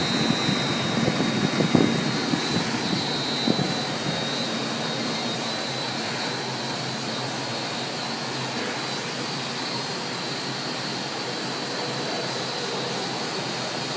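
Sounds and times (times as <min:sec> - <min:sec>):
high machine whine: 0:00.0 - 0:13.9.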